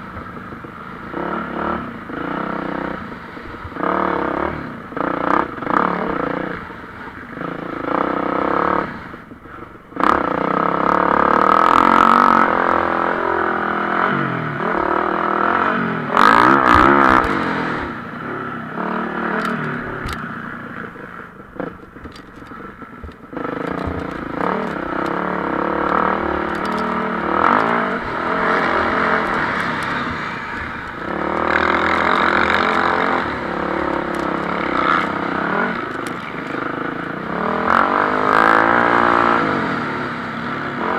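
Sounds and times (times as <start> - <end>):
motocross bikes racing: 0.0 - 40.9.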